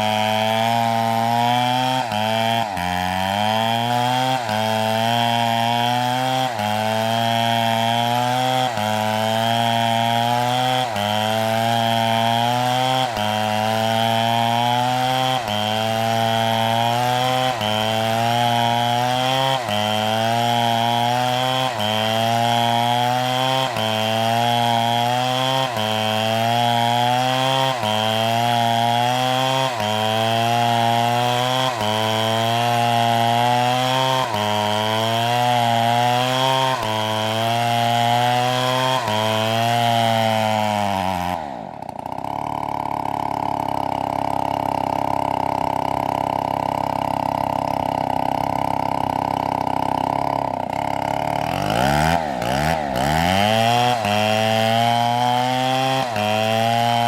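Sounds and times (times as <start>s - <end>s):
chainsaw running under load: 0.0s - 57.0s.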